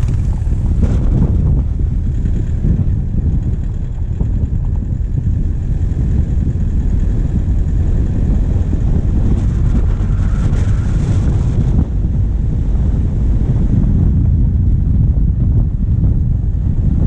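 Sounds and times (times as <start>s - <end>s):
diesel engine rumbling: 0.0s - 17.0s
wind noise: 0.0s - 17.0s.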